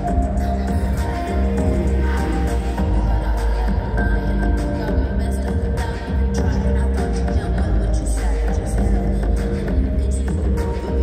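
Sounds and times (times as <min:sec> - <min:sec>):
show music with deep bass: 0:00.0 - 0:11.0.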